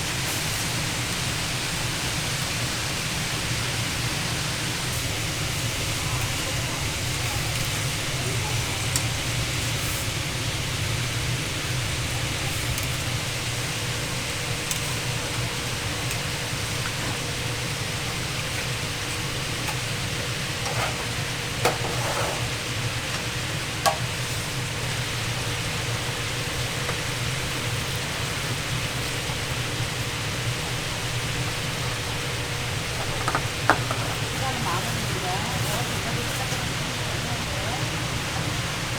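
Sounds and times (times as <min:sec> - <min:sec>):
patties sizzling: 0:00.0 - 0:38.9.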